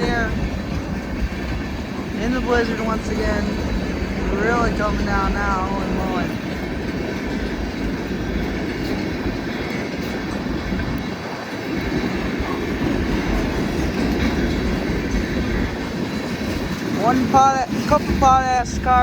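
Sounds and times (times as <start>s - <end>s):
freight train rolling past: 0.0s - 19.0s
steel wheels clattering on rails: 0.0s - 19.0s.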